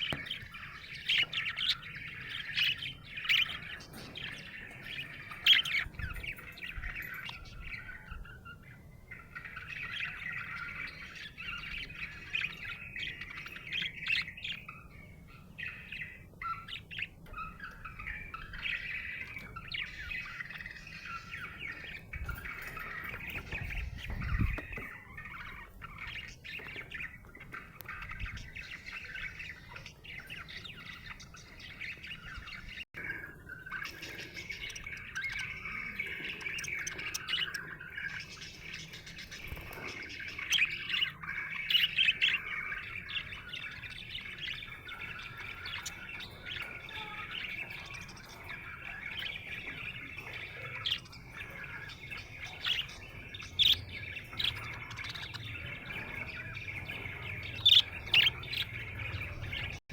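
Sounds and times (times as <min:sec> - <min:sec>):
budgerigar chirping: 0:00.0 - 0:59.8.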